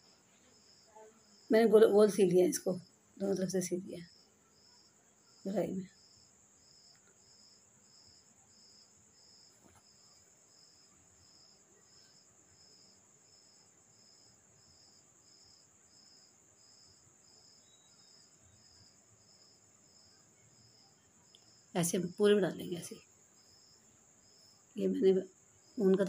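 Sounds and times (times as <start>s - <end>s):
cricket chirping: 0.0s - 26.0s
crickets trilling: 0.5s - 26.0s.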